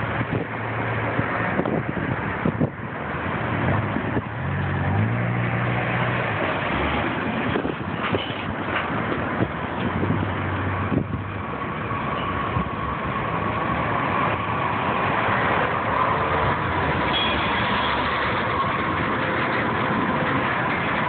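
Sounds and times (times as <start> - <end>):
road traffic hiss: 0.0 - 21.0.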